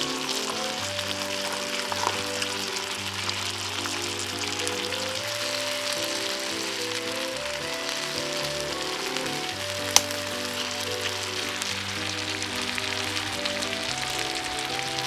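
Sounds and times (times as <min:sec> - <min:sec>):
background music: 0:00.0 - 0:15.0
crackling sizzling hiss: 0:00.0 - 0:15.0.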